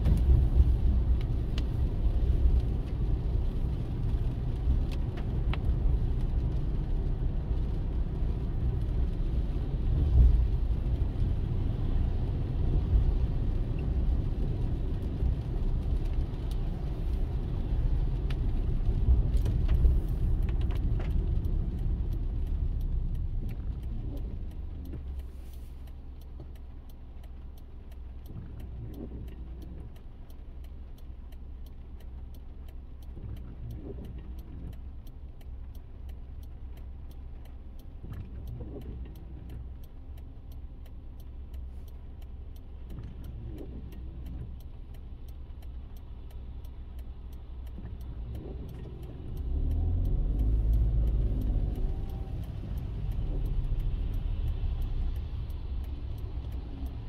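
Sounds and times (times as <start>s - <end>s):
road and engine rumble: 0.0s - 57.0s.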